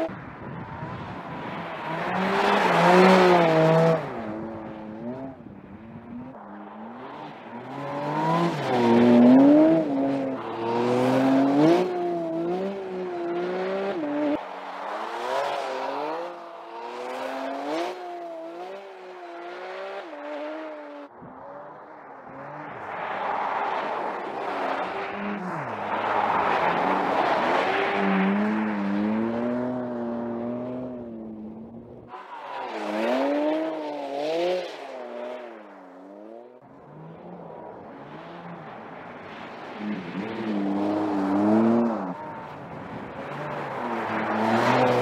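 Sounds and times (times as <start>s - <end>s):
car engine revving: 0.7s - 45.0s.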